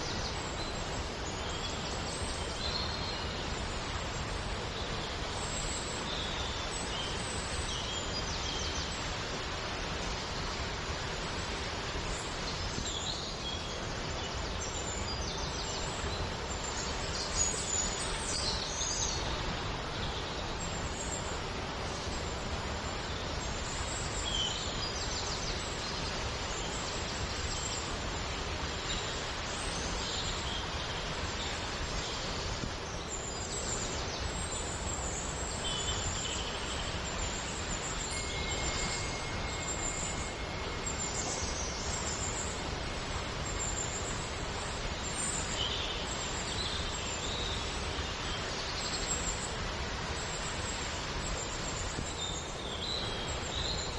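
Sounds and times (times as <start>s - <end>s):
running water: 0.0s - 53.9s.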